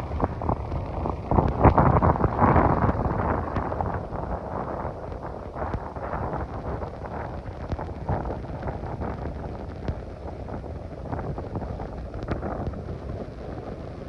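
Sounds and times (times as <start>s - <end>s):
heavy rain: 0.0s - 14.0s
wind buffeting microphone: 0.0s - 14.0s.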